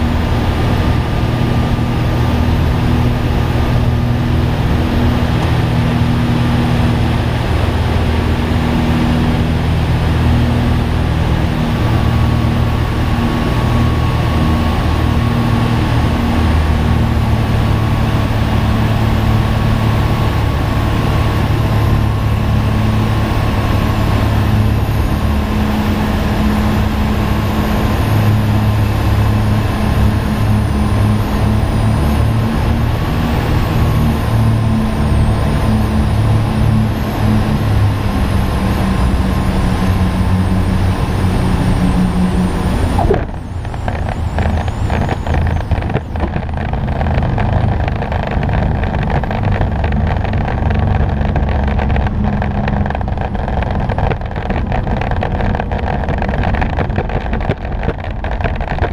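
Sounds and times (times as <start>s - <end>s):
airplane engine and propeller drone: 0.0s - 58.9s.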